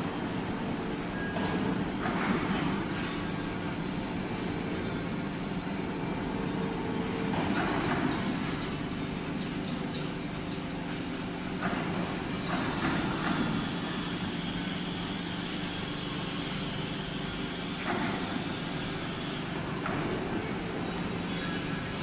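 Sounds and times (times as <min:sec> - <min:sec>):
hydraulic power unit humming: 0:00.0 - 0:22.0.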